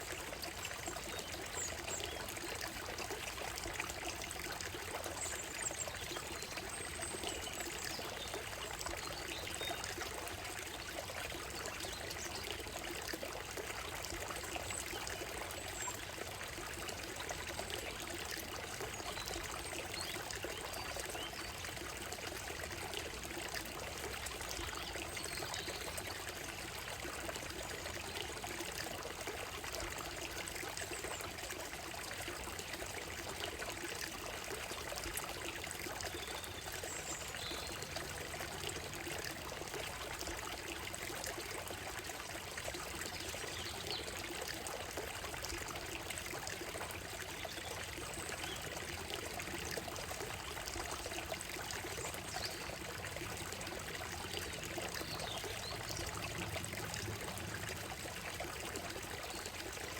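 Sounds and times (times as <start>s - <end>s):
stream babbling over stones: 0.0s - 59.9s.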